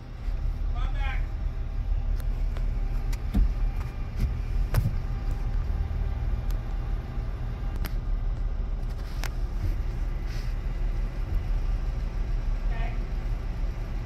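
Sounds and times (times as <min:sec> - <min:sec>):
muffled engine rumble: 0:00.0 - 0:14.0.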